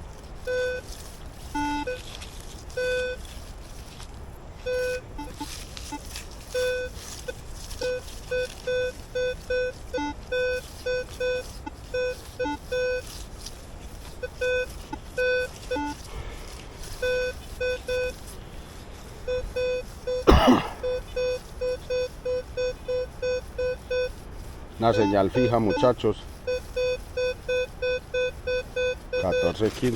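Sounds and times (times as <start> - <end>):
metal detector beeping: 0.4 - 3.3, 4.6 - 16.1, 16.8 - 18.4, 19.1 - 24.2, 24.8 - 29.9.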